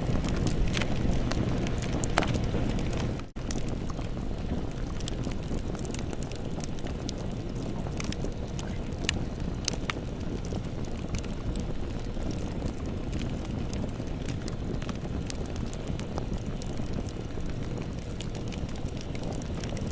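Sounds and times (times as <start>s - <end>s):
low rush of flames: 0.0s - 19.9s
wood crackling and popping: 0.0s - 19.9s.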